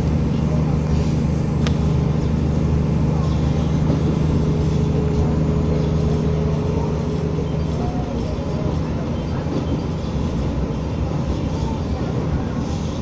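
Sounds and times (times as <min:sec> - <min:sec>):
railcar diesel engine running: 0:00.0 - 0:13.0.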